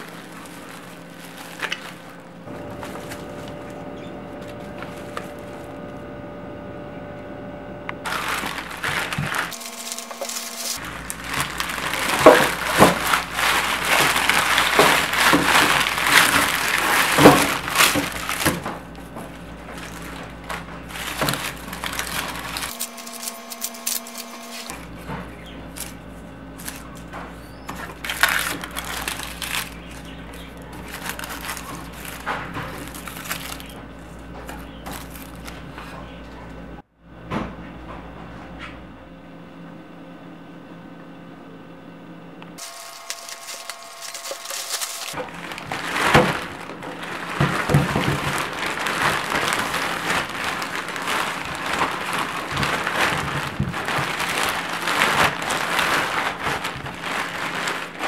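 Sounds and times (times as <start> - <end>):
plastic packaging rustling: 0.0 - 6.1, 8.0 - 36.1, 42.6 - 58.0
steady low hum: 0.0 - 58.0.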